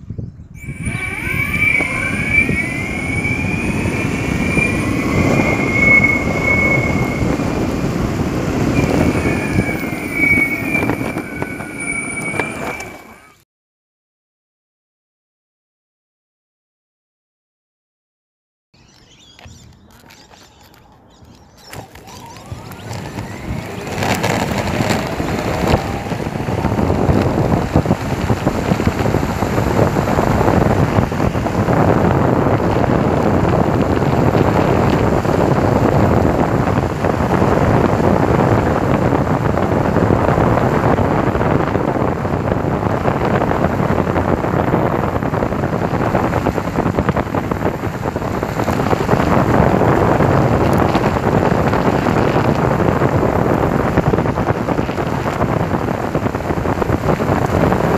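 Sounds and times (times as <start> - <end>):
wind rush over microphone: 0.0 - 13.4, 18.8 - 57.9
electric motor whine: 0.6 - 13.4, 21.6 - 57.9
skateboard wheels rolling: 0.6 - 13.4, 18.8 - 57.9.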